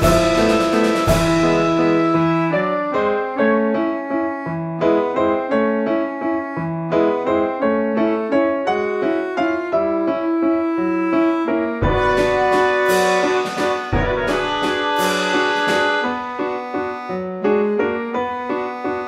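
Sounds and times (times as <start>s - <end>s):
keyboard melody: 0.0s - 19.0s.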